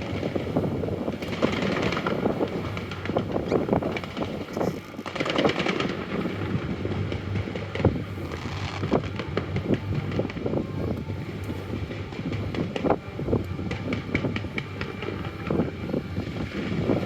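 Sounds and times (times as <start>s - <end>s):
fireworks popping and banging: 0.0s - 17.0s
steady rumble: 0.0s - 17.0s.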